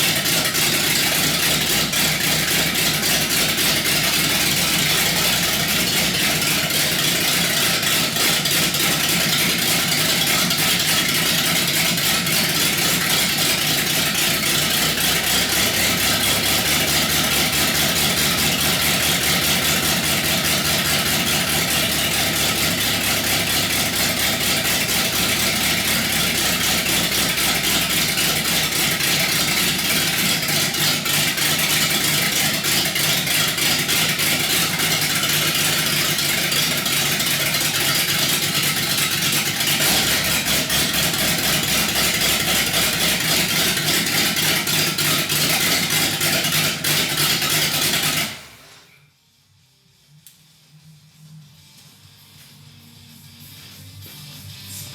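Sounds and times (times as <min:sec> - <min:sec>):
car engine idling: 0:00.0 - 0:48.8.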